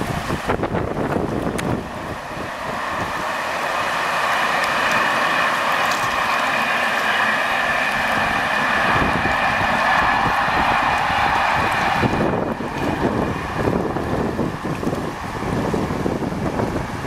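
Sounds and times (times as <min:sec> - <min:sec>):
train wheels hissing on rails: 0:00.0 - 0:17.0.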